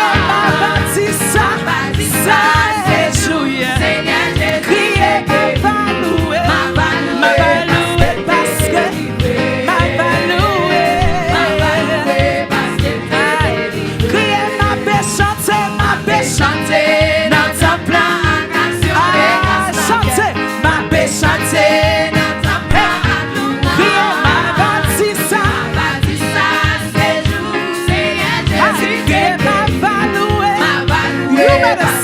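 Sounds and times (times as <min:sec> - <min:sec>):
gospel singing: 0:00.0 - 0:32.0
live band accompaniment: 0:00.0 - 0:32.0
steady drum beat: 0:00.0 - 0:32.0.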